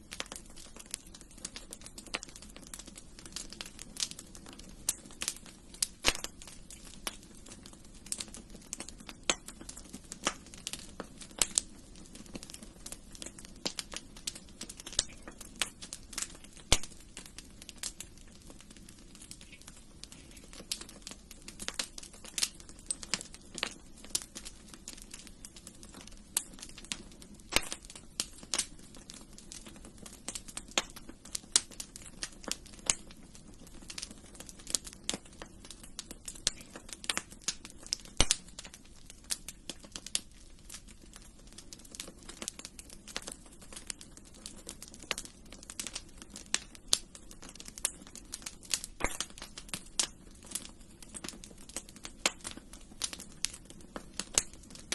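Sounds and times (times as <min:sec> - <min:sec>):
low steady hiss: 0:00.0 - 0:54.9
sharp pops from fire: 0:00.0 - 0:54.9
wood fire crackling: 0:00.0 - 0:54.9.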